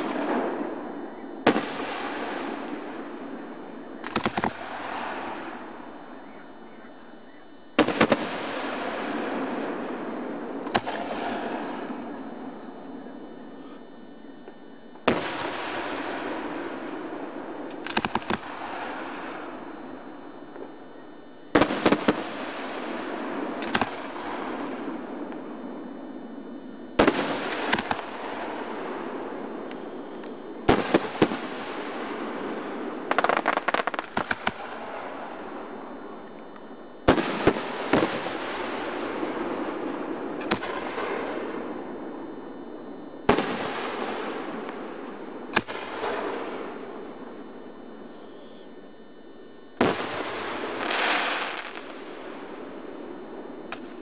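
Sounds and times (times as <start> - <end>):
fireworks bursting with bangs: 0.0 - 19.8, 21.5 - 25.6, 27.0 - 35.7, 37.0 - 41.7, 43.2 - 47.3, 49.8 - 52.9
crackling fireworks reports: 0.0 - 54.0.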